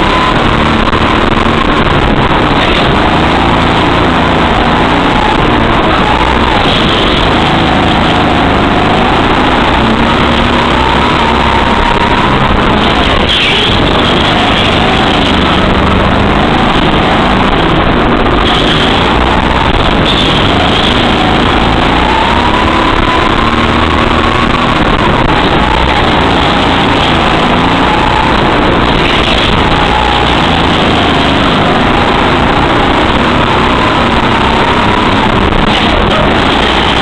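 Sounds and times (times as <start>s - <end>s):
go-kart engine revving: 0.0s - 37.0s.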